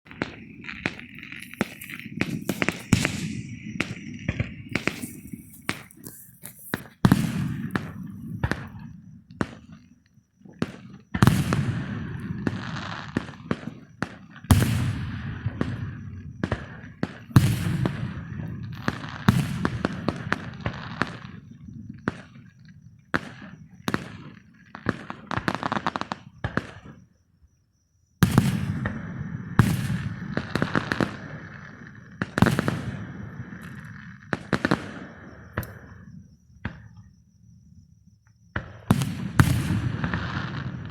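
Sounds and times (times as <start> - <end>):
fireworks bangs with crackling: 0.0 - 27.0, 28.2 - 37.2, 38.4 - 40.9.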